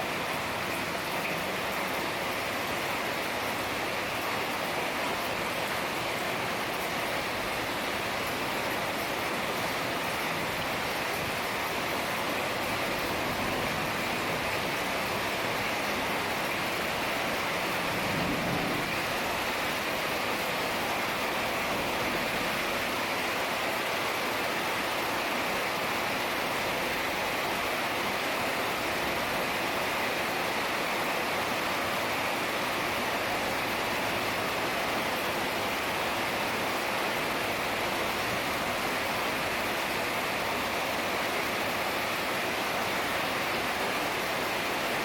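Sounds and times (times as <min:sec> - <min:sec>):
heavy rain hissing: 0:00.0 - 0:45.0.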